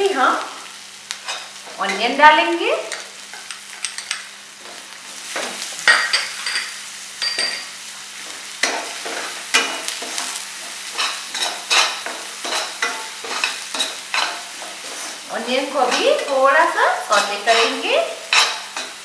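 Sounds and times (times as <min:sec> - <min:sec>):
onion sizzling in hot oil: 0:00.0 - 0:19.0.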